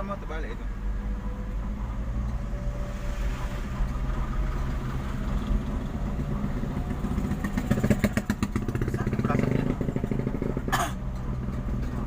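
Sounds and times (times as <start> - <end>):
engine humming at low revs: 0.0 - 12.0.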